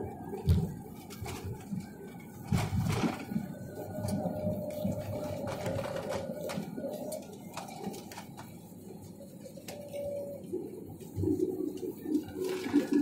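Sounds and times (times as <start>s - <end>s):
airliner cabin rumble: 0.0s - 13.0s
steady mid-pitched whine: 0.0s - 13.0s.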